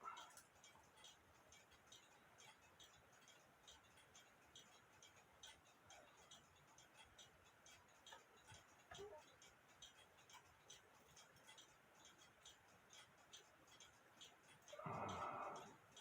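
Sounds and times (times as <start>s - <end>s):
clock ticking: 0.0s - 16.0s
metal clock parts clicking: 0.0s - 16.0s.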